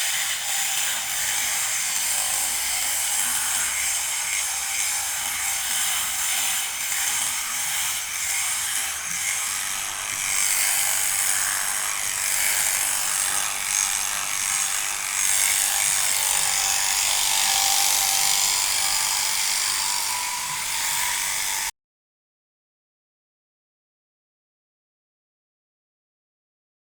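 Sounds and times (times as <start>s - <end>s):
sheep shears buzzing: 0.0s - 21.7s.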